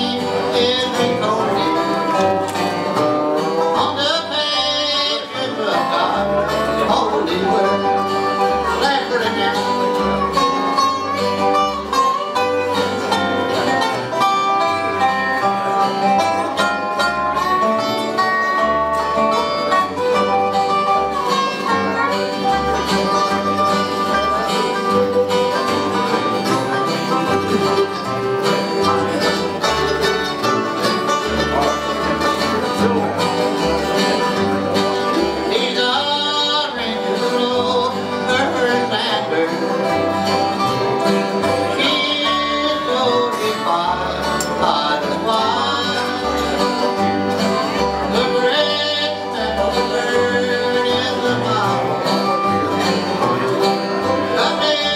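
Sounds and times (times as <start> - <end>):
acoustic guitars: 0.0 - 54.9
banjo: 0.0 - 54.9
fiddle: 0.0 - 54.9
upright bass: 0.0 - 54.9.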